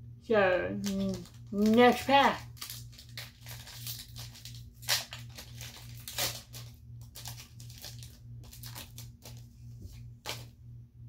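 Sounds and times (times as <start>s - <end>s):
foil wrapper tearing and crinkling: 0.8s - 9.5s, 10.2s - 10.5s.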